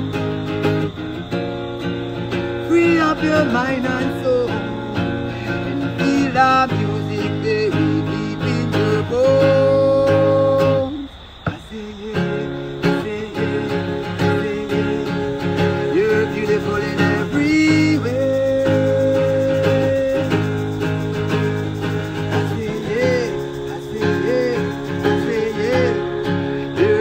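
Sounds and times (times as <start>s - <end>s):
acoustic guitar: 0.0s - 27.0s
man singing: 2.6s - 27.0s.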